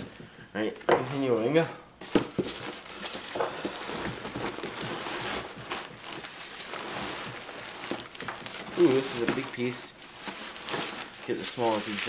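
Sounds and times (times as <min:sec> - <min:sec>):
tissue paper rustling: 0:02.0 - 0:12.0.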